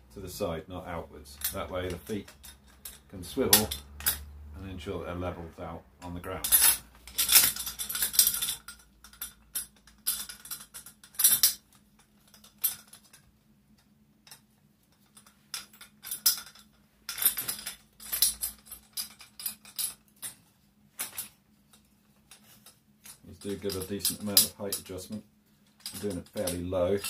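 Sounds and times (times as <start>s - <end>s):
metal tube legs clinking: 1.3s - 4.3s, 6.4s - 13.3s, 14.2s - 20.4s, 21.0s - 27.0s.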